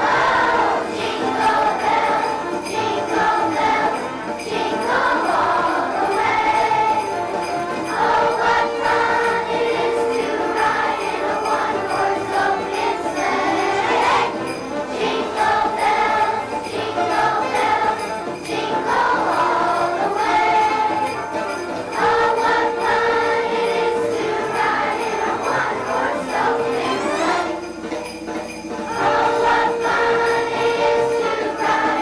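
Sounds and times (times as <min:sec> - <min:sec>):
children's choir singing: 0:00.0 - 0:32.0
musical accompaniment: 0:00.0 - 0:32.0
sleigh bells shaking: 0:00.0 - 0:32.0.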